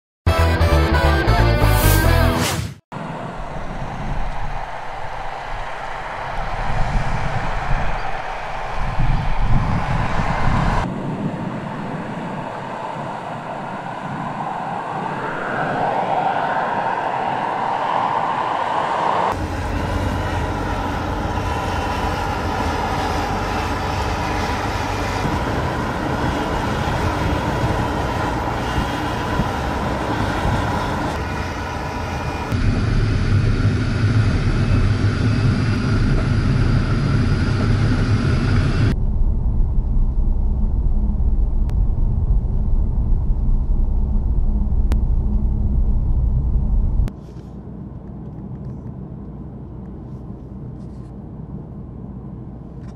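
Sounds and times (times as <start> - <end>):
car engine and tyre noise: 1.6 - 52.9.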